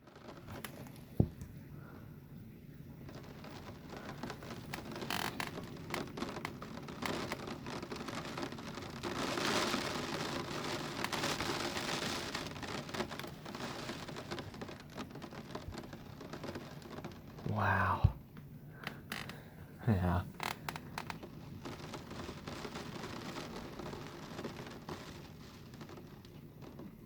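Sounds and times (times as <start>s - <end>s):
rain drops hitting surfaces: 0.0s - 27.0s
heavy rain: 2.7s - 27.0s.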